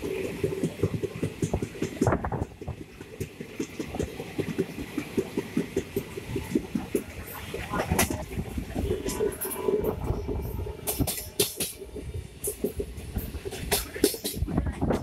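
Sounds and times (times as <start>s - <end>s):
low train hum: 0.0s - 15.0s
train coach rattling: 0.0s - 15.0s.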